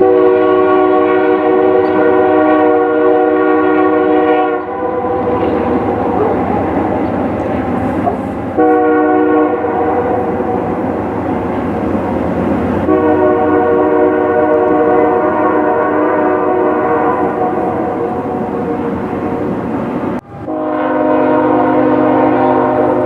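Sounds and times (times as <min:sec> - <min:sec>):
locomotive air horn: 0:00.0 - 0:06.3, 0:07.8 - 0:10.8, 0:12.8 - 0:19.4, 0:20.2 - 0:23.0
train rumble: 0:00.0 - 0:23.0.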